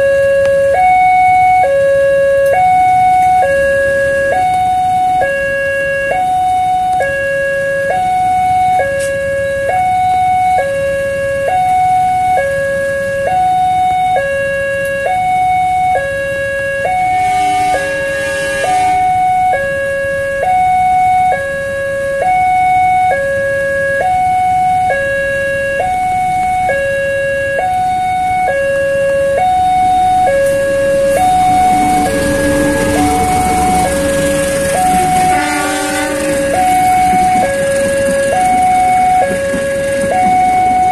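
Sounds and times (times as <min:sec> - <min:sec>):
train approaching: 0:00.0 - 0:23.3, 0:24.0 - 0:40.9
two-tone crossing alarm: 0:00.0 - 0:40.9.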